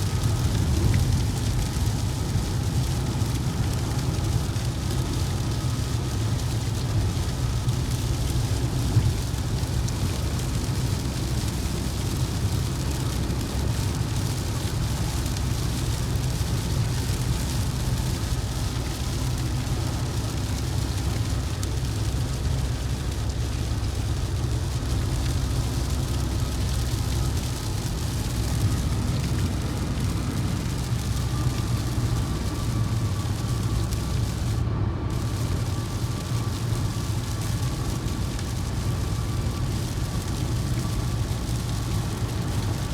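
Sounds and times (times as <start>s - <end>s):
vehicle engine rumble: 0.0s - 42.9s.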